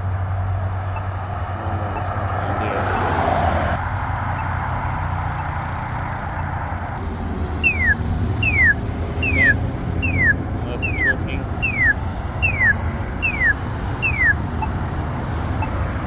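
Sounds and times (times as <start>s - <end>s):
traffic: 0.0s - 16.0s
pedestrian signal chirping: 0.7s - 16.0s.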